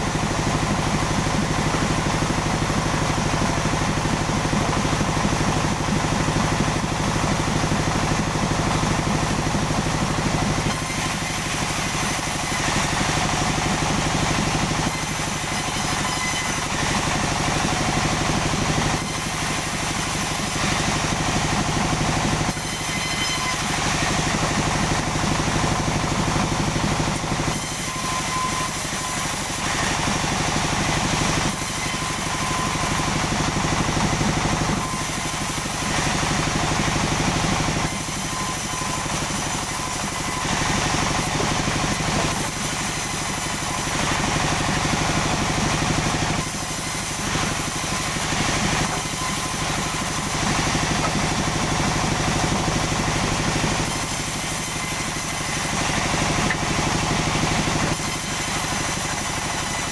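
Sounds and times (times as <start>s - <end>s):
sawmill machinery engine running: 0.0s - 59.9s.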